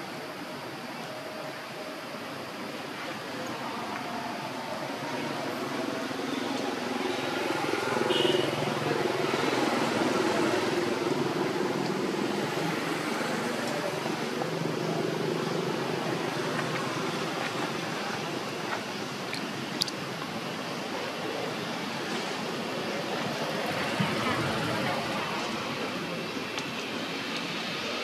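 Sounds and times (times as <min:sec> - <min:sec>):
vehicle engine humming: 0:03.6 - 0:28.0.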